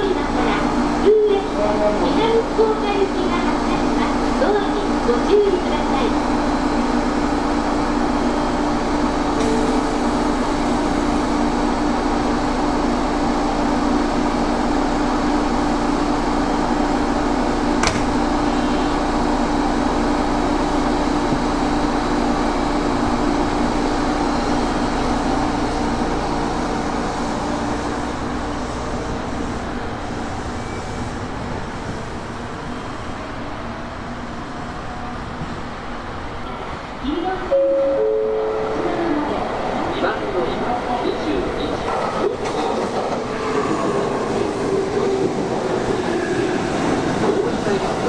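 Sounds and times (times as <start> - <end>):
train fan-like hum: 0.0 - 48.0.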